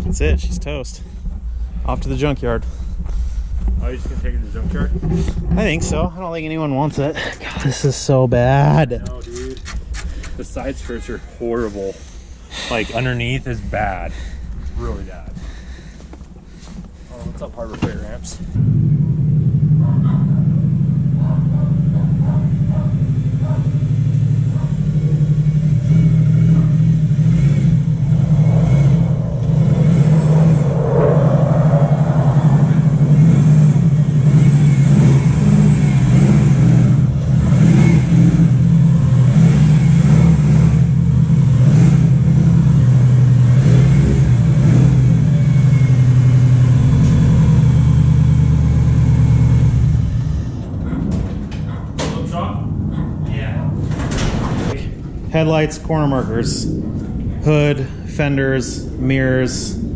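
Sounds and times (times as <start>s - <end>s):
car engine running: 0.0s - 7.1s, 11.6s - 54.8s.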